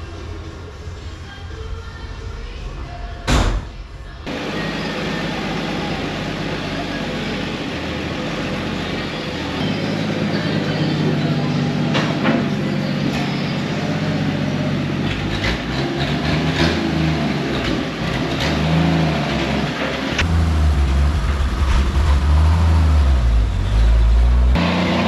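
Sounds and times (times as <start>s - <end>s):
car engine running: 4.2s - 25.0s.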